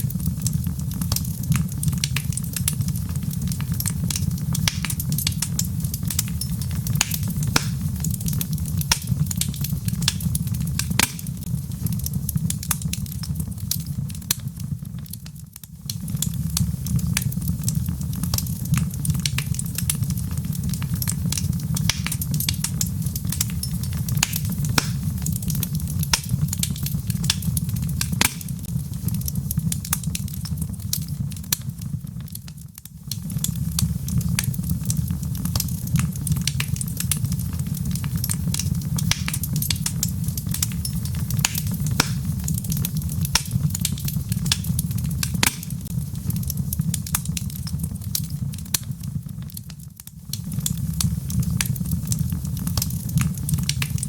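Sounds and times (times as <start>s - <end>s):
wood logs burning and crackling: 0.0s - 54.0s.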